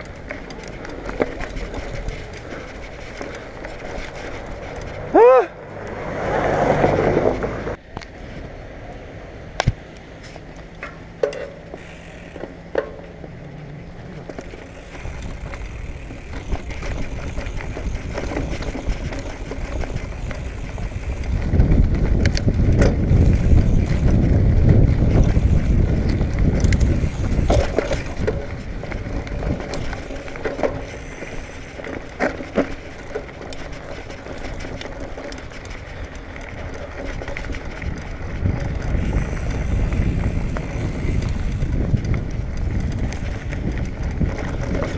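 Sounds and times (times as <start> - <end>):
bike rattling over bumps: 0.0 - 8.6, 9.6 - 44.9
bike tyres rolling on dirt: 0.0 - 44.9.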